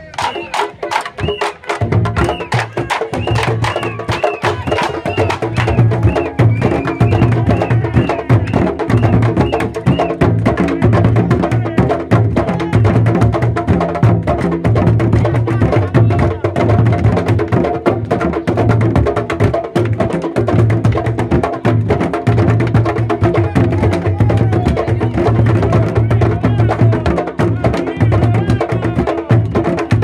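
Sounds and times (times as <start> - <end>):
hand drums playing rhythm: 0.0 - 30.0.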